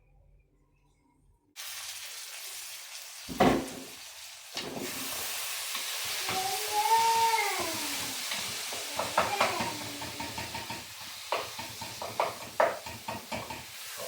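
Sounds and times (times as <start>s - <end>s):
food sizzling in a pot: 1.6s - 14.0s.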